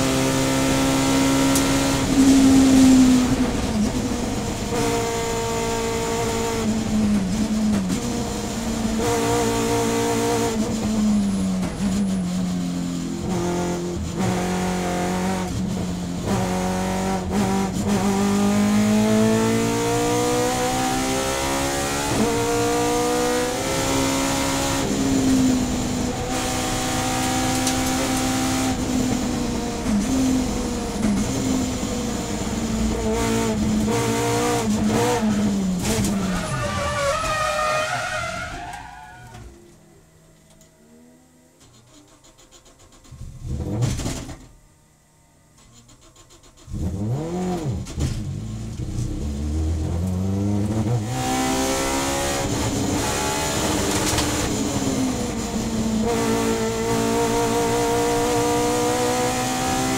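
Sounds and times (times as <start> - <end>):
race car engine revving: 0.0 - 38.0, 46.0 - 59.9.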